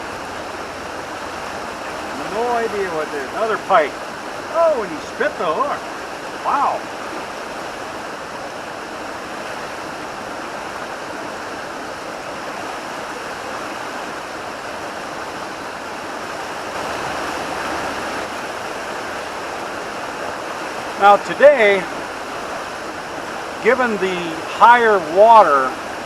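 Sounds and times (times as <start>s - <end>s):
fast-flowing river water: 0.0s - 26.0s.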